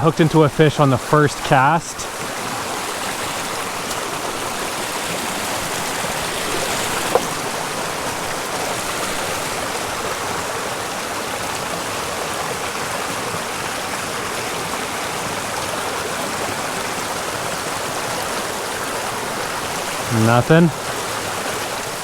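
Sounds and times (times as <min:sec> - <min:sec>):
creek running over rocks: 0:00.0 - 0:22.0.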